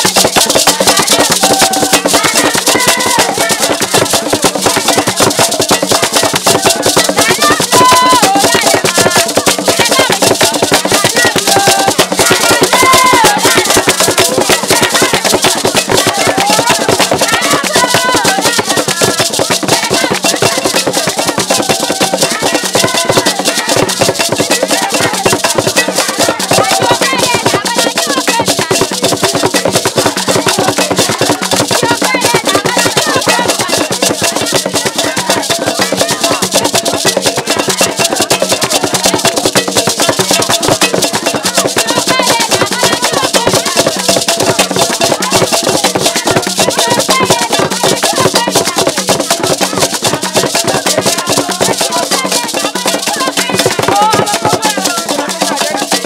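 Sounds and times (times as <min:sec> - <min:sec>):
voices singing: 0:00.0 - 0:39.8, 0:40.4 - 0:56.0
drum ensemble playing fast rhythm: 0:00.0 - 0:56.0.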